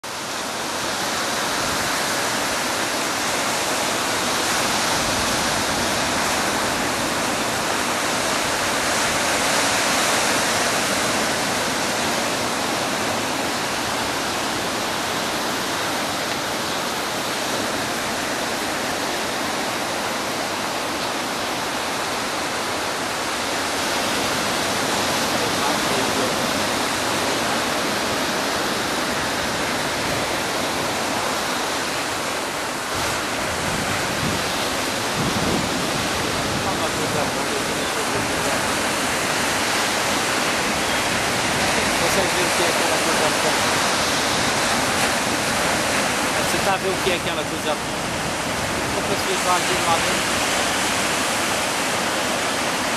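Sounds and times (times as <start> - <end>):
waves breaking on beach and rocks: 0.0 - 52.9.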